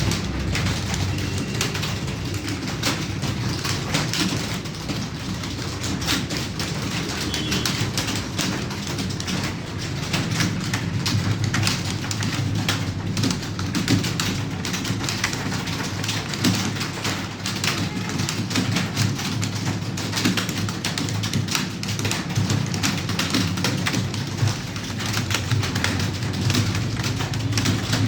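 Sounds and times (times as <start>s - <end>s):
computer keyboard typing: 0.0s - 28.0s.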